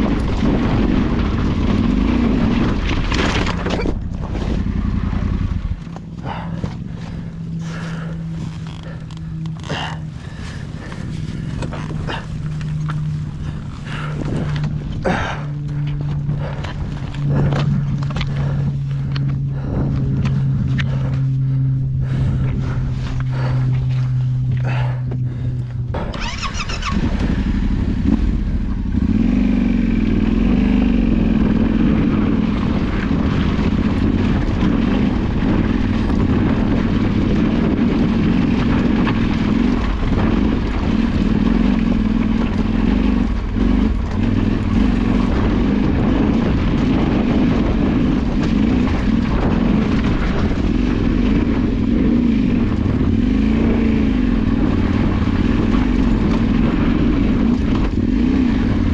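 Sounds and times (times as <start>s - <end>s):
off-road motorcycle engine revving: 0.0s - 58.9s.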